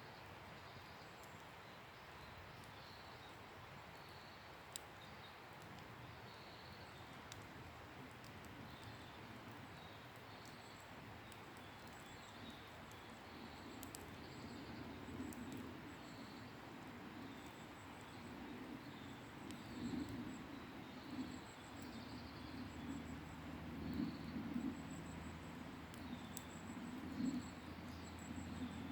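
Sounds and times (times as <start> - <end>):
campfire crackling and popping: 1.2 - 2.7, 4.6 - 28.9.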